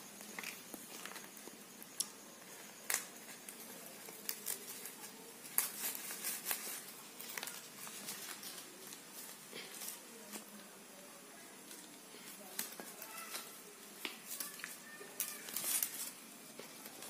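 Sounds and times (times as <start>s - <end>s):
leaves rustling and crackling: 0.0s - 17.0s.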